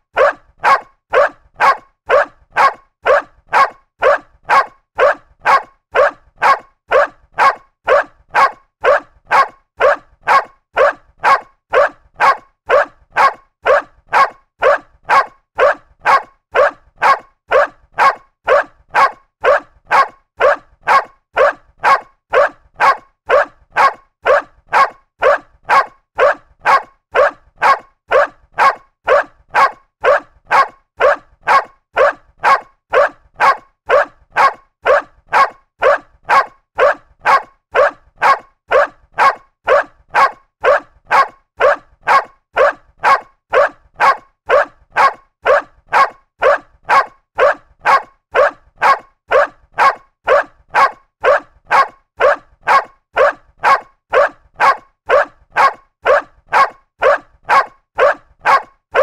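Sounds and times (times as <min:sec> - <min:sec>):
dog barking: 0:00.1 - 0:59.0.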